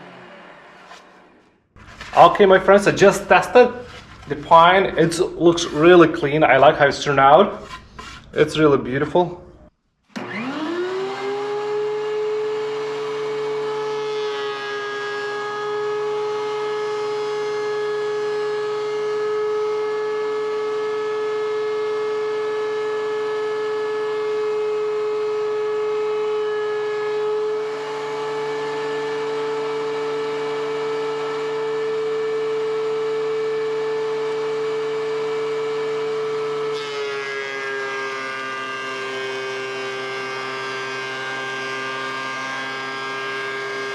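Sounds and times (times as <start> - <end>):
thickness planer motor whining: 0.0 - 9.3, 10.1 - 43.9.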